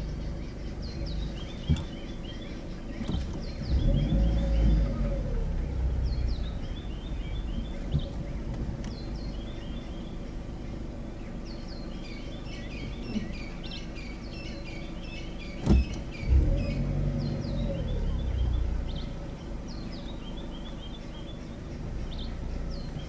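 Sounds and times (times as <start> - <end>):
birds chirping: 0.0 - 23.0
vehicle engine idling: 0.0 - 23.0.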